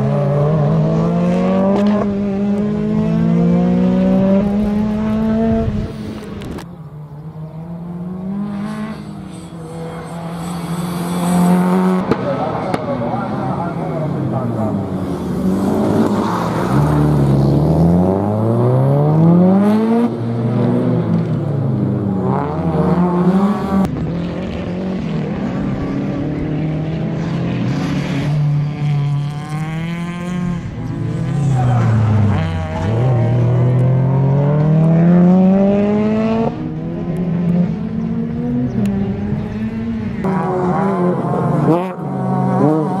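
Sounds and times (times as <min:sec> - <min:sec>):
rally car engine revving: 0:00.0 - 0:43.0.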